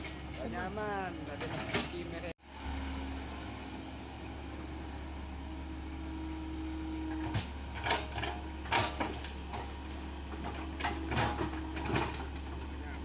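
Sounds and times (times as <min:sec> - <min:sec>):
constant low rumble: 0:00.0 - 0:13.0
insects droning: 0:00.0 - 0:13.0.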